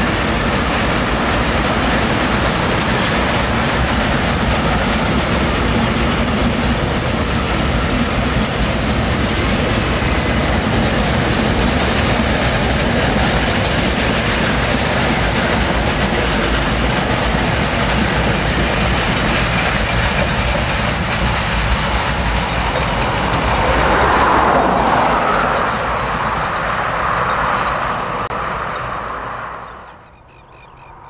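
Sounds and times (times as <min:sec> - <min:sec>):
steam locomotive rumble: 0:00.0 - 0:31.0.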